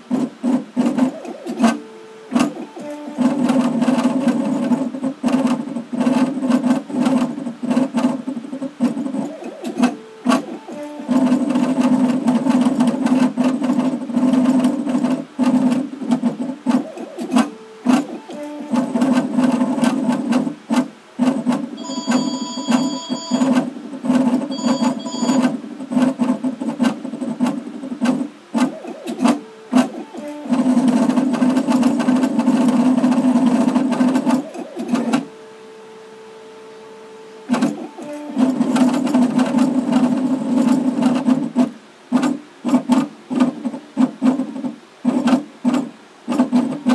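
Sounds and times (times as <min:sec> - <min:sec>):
faint steady whine: 0:00.0 - 0:46.9.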